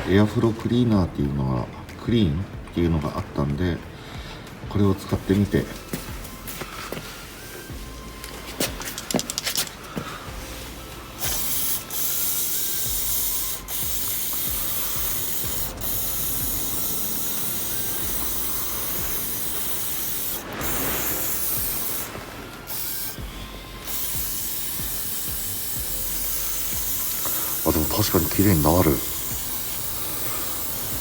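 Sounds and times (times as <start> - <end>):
aerosol spray hissing: 5.9 - 31.0.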